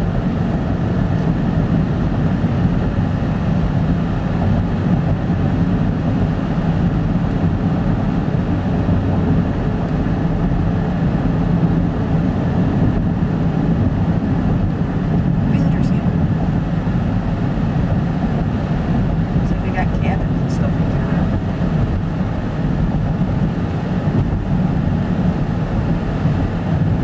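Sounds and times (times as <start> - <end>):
car engine and tyre hum: 0.0 - 27.0.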